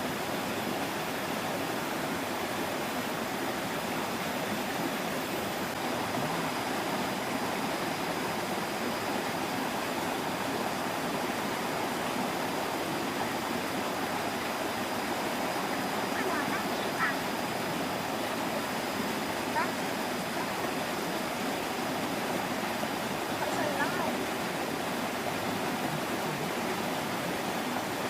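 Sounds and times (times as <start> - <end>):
flowing stream water: 0.0 - 28.0.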